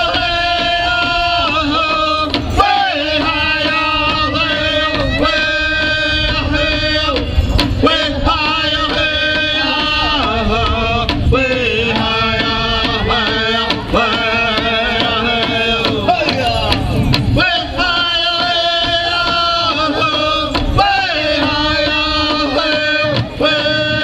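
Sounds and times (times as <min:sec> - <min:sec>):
group singing held notes: 0:00.0 - 0:24.0
large drum beats: 0:00.0 - 0:24.0.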